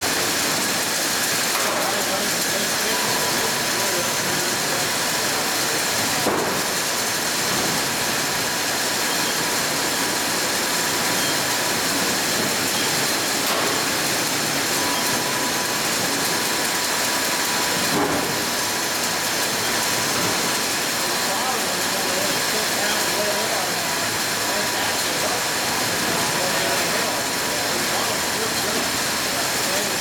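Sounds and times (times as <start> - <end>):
mechanical hum and hiss of machinery: 0.0 - 30.0.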